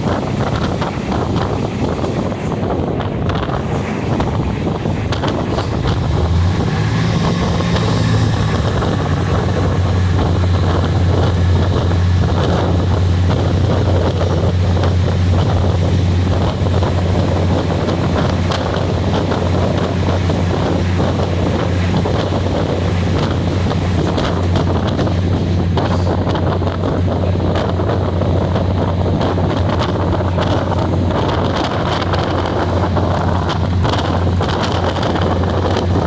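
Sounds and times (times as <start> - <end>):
low engine hum: 0.0 - 36.0
passenger train running: 0.0 - 36.0
wind buffeting microphone: 0.0 - 36.0.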